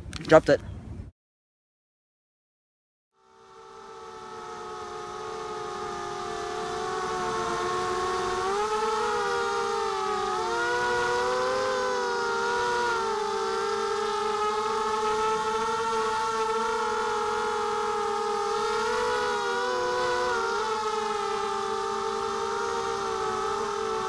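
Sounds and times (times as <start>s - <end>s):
quadcopter motors whining: 3.2s - 24.0s.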